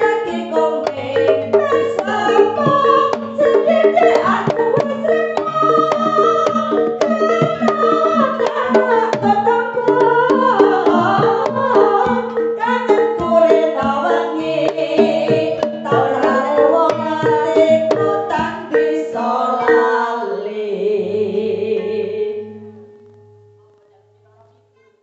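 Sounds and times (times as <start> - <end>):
drums and tuned percussion: 0.0 - 20.4
person singing: 0.0 - 22.9.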